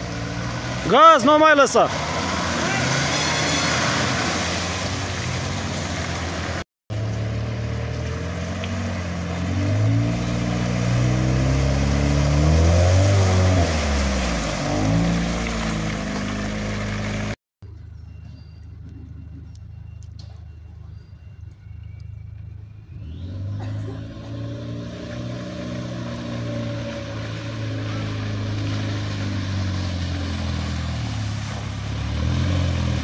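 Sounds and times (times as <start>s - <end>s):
suv engines revving in mud: 0.0s - 33.0s.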